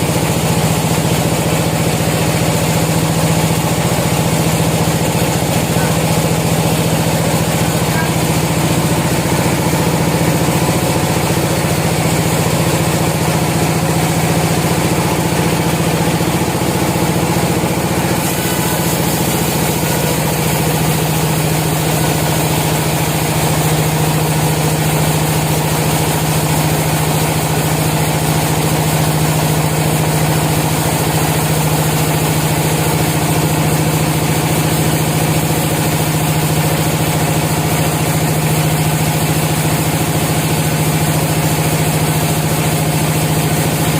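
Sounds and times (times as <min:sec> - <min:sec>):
sawmill machinery humming: 0:00.0 - 0:43.9.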